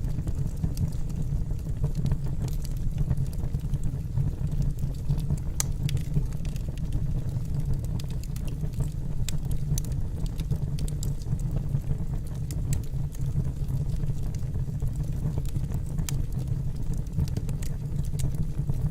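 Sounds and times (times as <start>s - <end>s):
burning wood crackling and popping: 0.0s - 18.9s
low rumble of fire: 0.0s - 18.9s.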